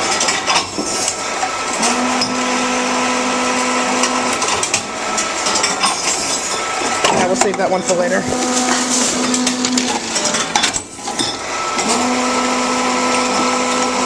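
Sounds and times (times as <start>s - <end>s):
machine motor whirring: 0.8s - 14.0s.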